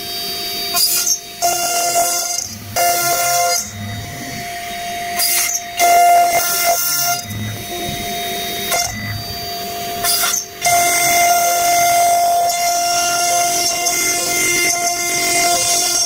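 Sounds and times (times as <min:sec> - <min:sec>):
router spindle whining: 0:00.1 - 0:16.0
bit cutting wood noise: 0:00.7 - 0:16.0.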